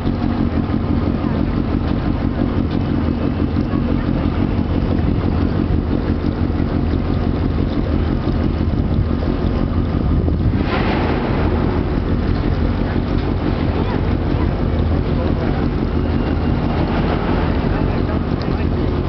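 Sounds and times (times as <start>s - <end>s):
boat engine running: 0.0s - 19.0s
rush of noise: 0.0s - 19.0s
wind on microphone: 3.4s - 19.0s.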